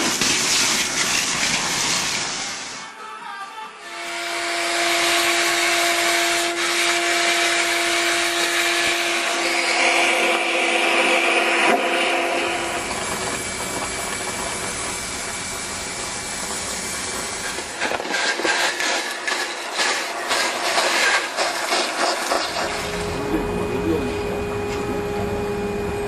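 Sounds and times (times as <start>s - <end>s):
vacuum cleaner hum: 3.9s - 26.0s
vacuum cleaner air rush: 4.0s - 26.0s.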